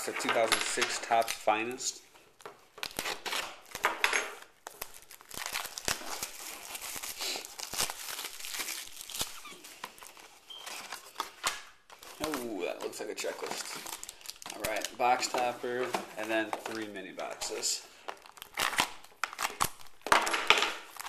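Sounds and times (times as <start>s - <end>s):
plastic wrapping crinkling and tearing: 1.0s - 20.1s, 20.7s - 21.0s.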